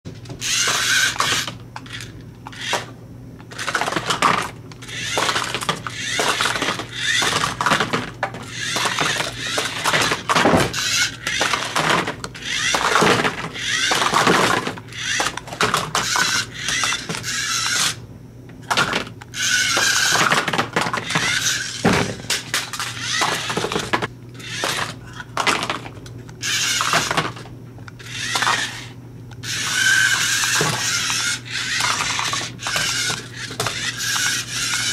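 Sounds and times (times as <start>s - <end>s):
toy car motor whirring: 0.4s - 2.9s, 3.5s - 18.0s, 18.8s - 25.8s, 26.4s - 34.9s.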